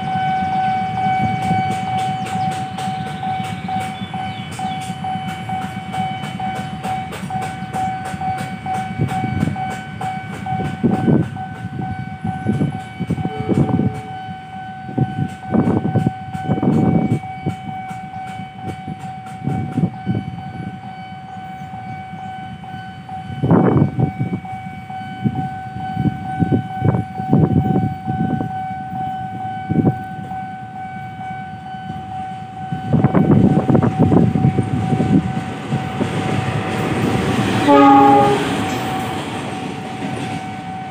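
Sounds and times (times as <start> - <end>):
level crossing warning tone: 0.0 - 40.9.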